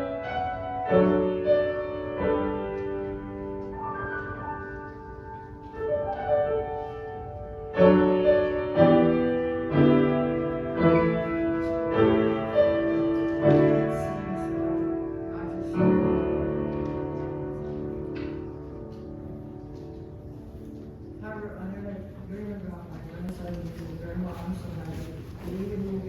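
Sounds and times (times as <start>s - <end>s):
piano playing slow chords: 0.0s - 22.6s.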